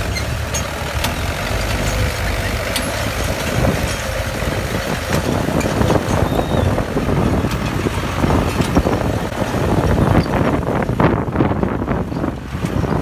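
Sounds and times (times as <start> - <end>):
diesel tractor engines under load: 0.0 - 13.0.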